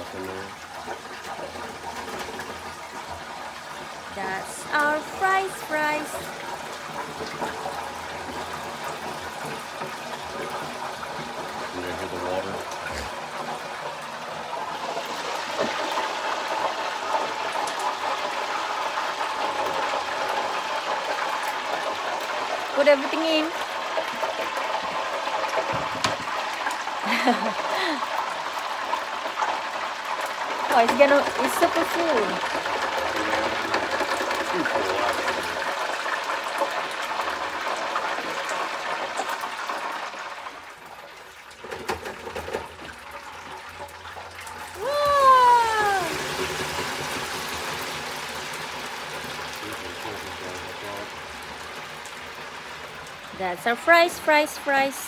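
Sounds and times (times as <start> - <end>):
fries sizzling in hot oil: 0.0 - 55.0.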